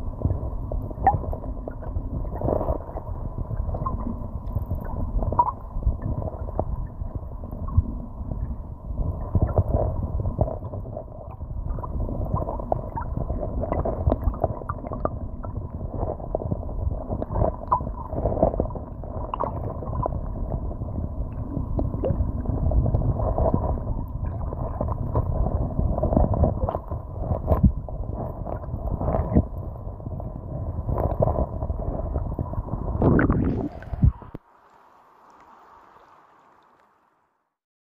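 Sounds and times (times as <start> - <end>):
underwater river current gurgling: 0.0 - 37.6.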